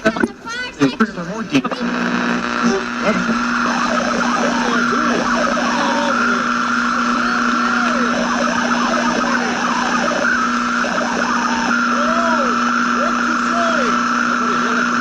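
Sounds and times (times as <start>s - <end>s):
radio static hiss: 0.0s - 15.0s
warbling radio whistles: 1.5s - 15.0s
low hum: 1.7s - 15.0s.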